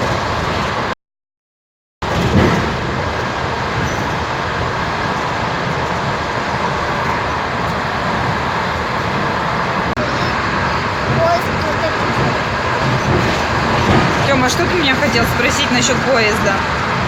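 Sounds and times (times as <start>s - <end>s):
train running rumble: 0.0s - 0.9s, 2.0s - 17.0s.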